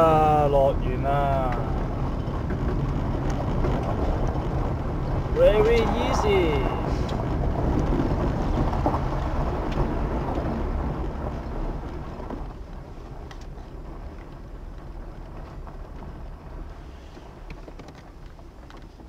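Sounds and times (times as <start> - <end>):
car tyres rolling over gravel: 0.0 - 19.0.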